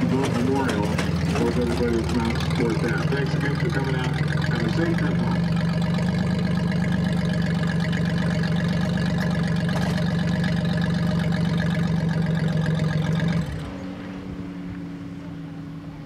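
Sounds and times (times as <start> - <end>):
race car engine idling: 0.0 - 13.9.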